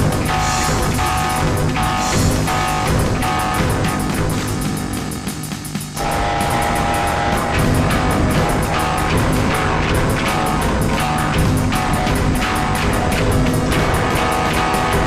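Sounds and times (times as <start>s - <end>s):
electric guitar: 0.0s - 5.3s, 6.0s - 15.0s
drums: 0.0s - 15.0s
fast cymbal pulse: 0.0s - 15.0s.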